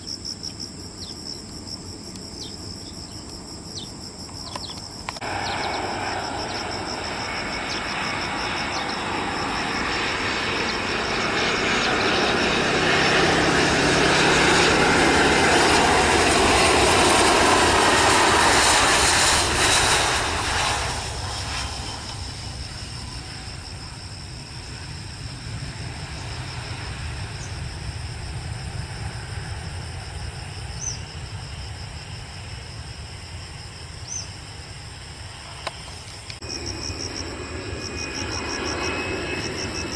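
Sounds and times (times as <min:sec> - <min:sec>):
insects chirring: 0:00.0 - 0:39.9
jet airliner landing: 0:00.1 - 0:39.9.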